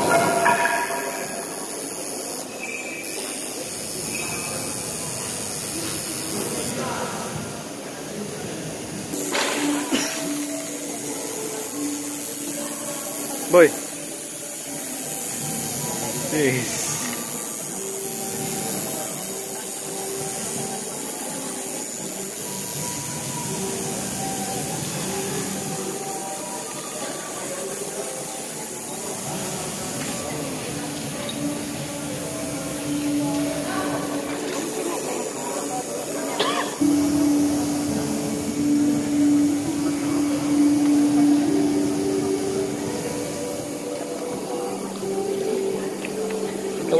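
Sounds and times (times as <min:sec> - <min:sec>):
tattoo machine buzzing: 0:00.0 - 0:07.8, 0:08.8 - 0:46.9
faint indistinct voices: 0:00.0 - 0:46.9
steady background hiss: 0:00.0 - 0:46.9.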